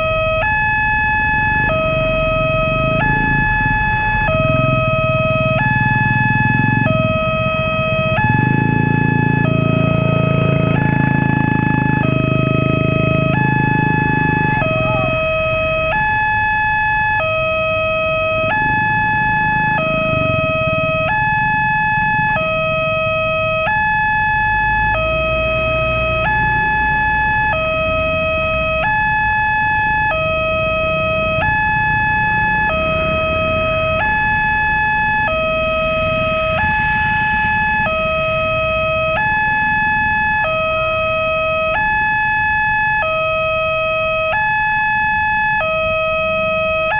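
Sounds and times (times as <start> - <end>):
two-tone warning siren: 0.0 - 46.9.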